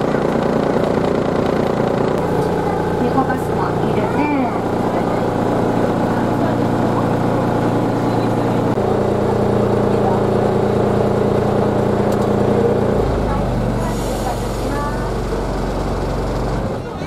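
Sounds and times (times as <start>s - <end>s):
railcar engine idling: 0.0s - 17.0s.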